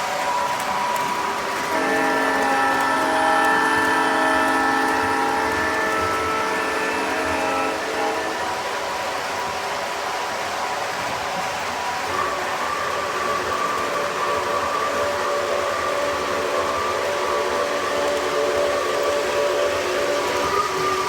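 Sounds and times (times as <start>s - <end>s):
model trains running on track: 0.0s - 21.0s
steam whistle chord: 0.1s - 21.0s.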